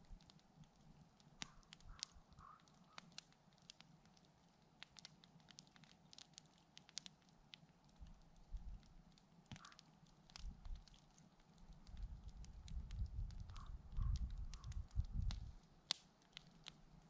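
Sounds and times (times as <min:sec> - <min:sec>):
campfire wood crackling: 0:00.0 - 0:17.0.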